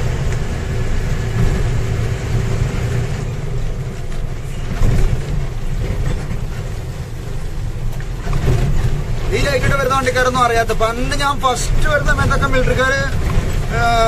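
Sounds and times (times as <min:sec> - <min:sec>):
lorry engine rumble: 0:00.0 - 0:14.0
tyres on road: 0:00.0 - 0:14.0.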